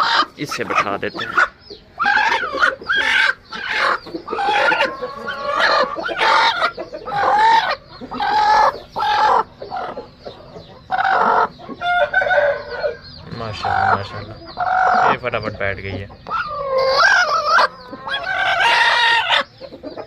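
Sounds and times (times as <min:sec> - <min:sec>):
chickens calling and clucking: 0:00.0 - 0:20.0.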